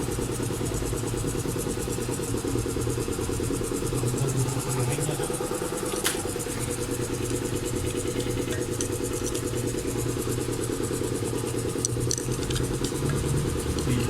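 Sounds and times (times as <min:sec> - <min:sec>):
pulsing mechanical drone: 0:00.0 - 0:14.0.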